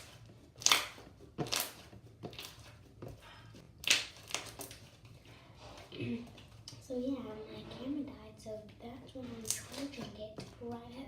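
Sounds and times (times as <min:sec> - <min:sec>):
slime squelching: 0:00.0 - 0:07.8, 0:08.7 - 0:11.0.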